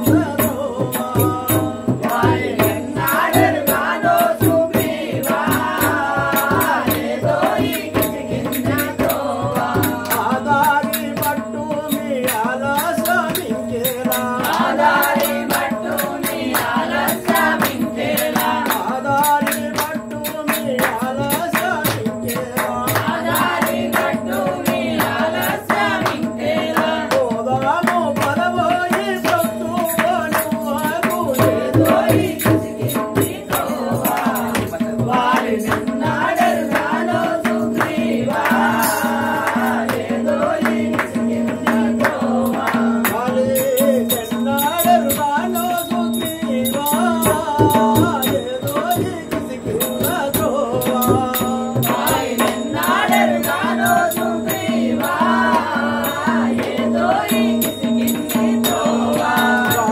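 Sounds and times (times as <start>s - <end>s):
group of voices singing: 0.0s - 59.9s
man singing into a microphone: 0.0s - 59.9s
tabla: 0.0s - 59.9s.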